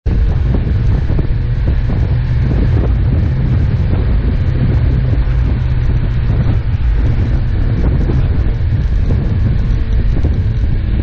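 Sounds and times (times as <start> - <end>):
vehicle engine and road rumble: 0.0 - 11.0
wind on microphone: 0.0 - 11.0.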